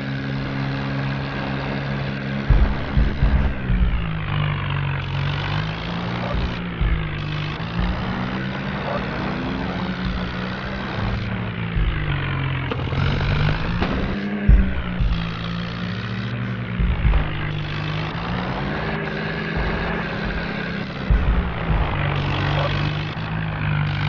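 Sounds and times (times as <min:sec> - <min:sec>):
vehicle engine running: 0:00.0 - 0:24.0
low thumps: 0:00.9 - 0:24.0.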